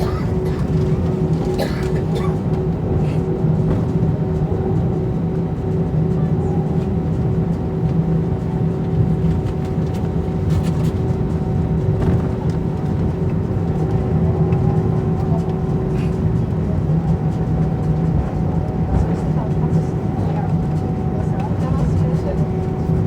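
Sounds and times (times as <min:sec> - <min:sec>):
jet engine cabin hum: 0:00.0 - 0:23.0.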